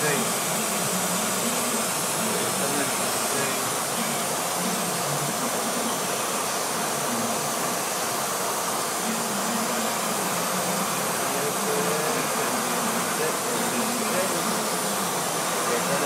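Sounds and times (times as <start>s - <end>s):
fan whooshing: 0.0s - 16.0s.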